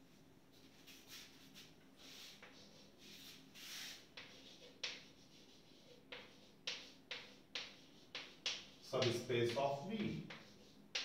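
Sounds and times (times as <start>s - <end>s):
chalk scratching on chalkboard: 0.5s - 11.0s.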